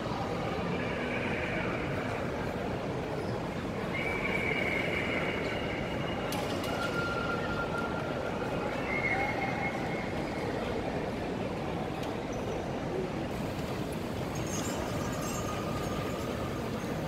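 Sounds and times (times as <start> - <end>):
mall crowd hubbub: 0.0 - 17.0.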